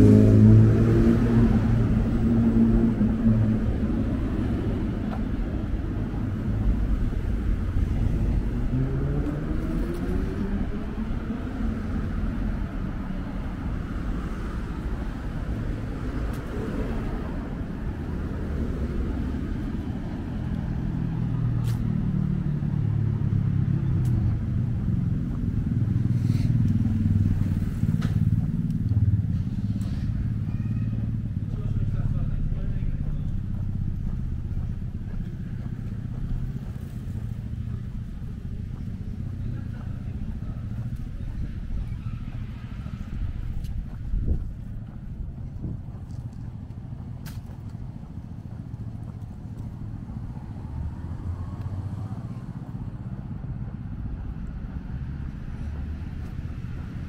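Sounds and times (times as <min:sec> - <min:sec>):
engine accelerating: 0:00.0 - 0:57.0
vehicles passing: 0:00.0 - 0:57.0.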